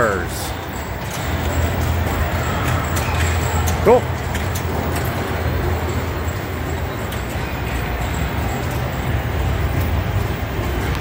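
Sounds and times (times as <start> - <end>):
arcade crowd din: 0.0 - 11.0
pinball machine clicks and knocks: 0.0 - 11.0.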